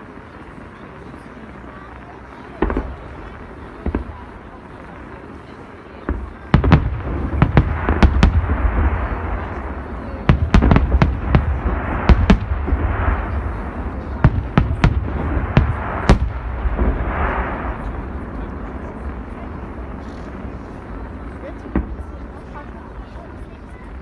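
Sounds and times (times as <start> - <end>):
fireworks crackling and hissing: 0.0 - 24.0.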